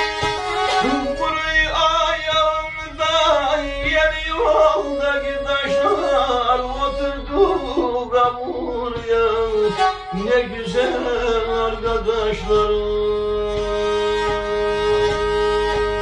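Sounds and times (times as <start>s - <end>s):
fiddle accompaniment: 0.0s - 16.0s
man singing long wavering notes: 0.7s - 16.0s.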